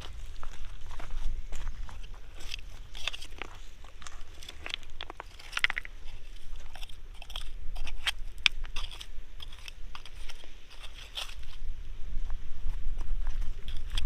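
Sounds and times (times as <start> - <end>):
stones and shells crunching: 0.0 - 11.8, 13.2 - 14.0
steady low rumble: 0.0 - 14.0.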